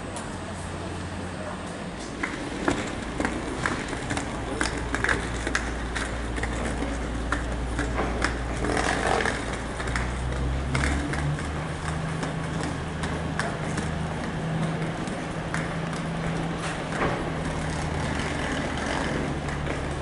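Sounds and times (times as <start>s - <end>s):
diesel train engine drone: 0.0s - 20.0s.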